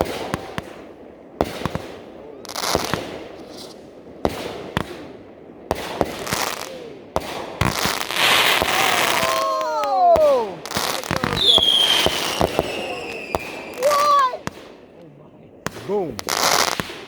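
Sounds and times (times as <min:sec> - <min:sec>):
fireworks bangs: 0:00.0 - 0:17.0
fireworks crackling and fizzing: 0:00.0 - 0:17.0.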